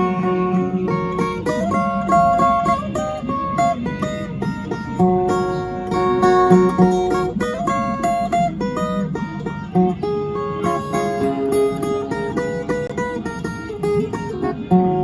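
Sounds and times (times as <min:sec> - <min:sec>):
ten-string guitar picking: 0:00.0 - 0:15.0.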